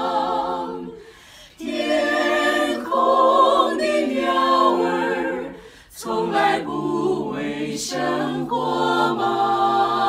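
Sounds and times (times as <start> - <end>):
group singing a hymn unaccompanied: 0.0 - 10.0.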